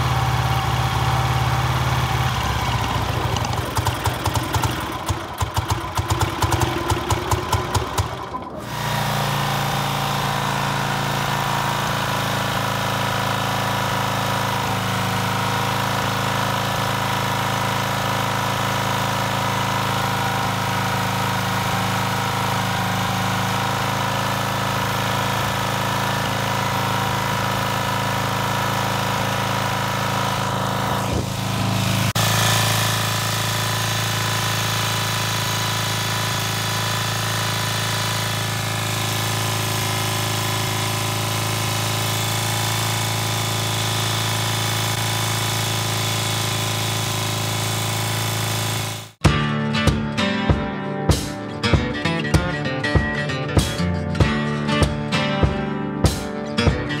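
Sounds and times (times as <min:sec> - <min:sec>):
motorcycle engine idling: 0:00.0 - 0:47.6.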